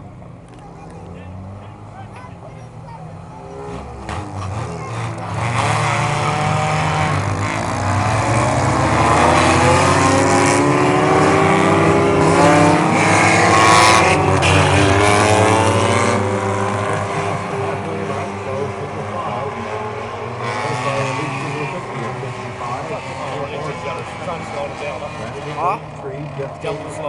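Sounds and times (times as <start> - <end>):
race car engines revving: 0.0 - 27.0.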